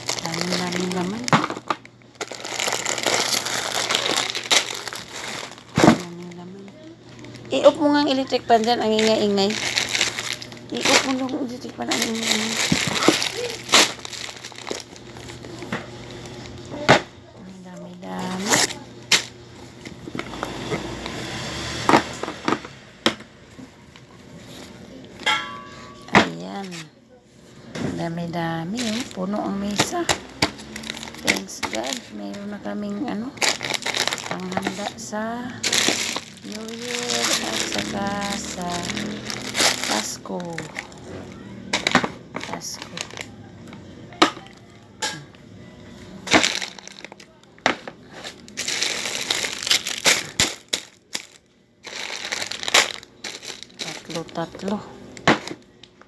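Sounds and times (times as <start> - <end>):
plastic packs crinkling: 0.0 - 20.4, 28.0 - 43.8, 46.2 - 56.0
plastic bags rustling: 0.0 - 20.9, 27.6 - 43.8, 46.0 - 55.8.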